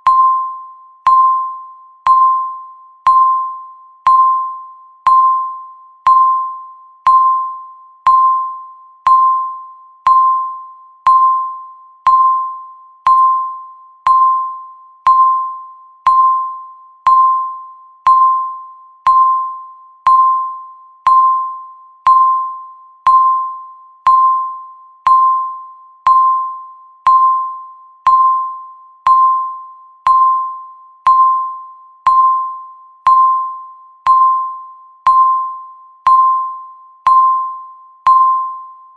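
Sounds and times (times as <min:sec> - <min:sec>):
electronic timer dings: 0:00.0 - 0:38.9.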